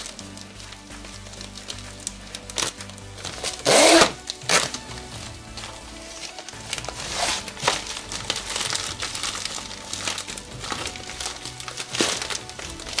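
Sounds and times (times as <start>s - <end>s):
background music: 0.0s - 13.0s
plastic mailer bag crinkling: 0.0s - 13.0s.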